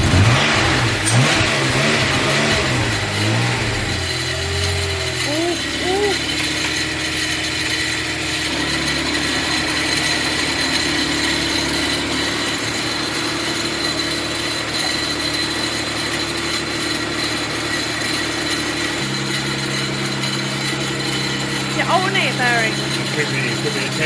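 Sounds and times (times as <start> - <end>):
car engine running: 0.0 - 24.0
high-pitched bearing whine: 0.0 - 24.0.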